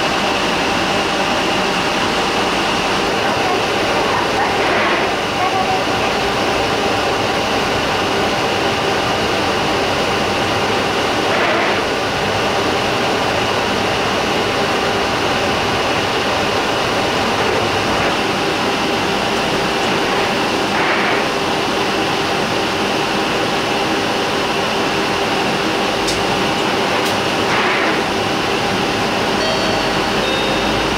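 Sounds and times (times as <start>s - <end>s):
bus cabin drone: 0.0s - 30.9s.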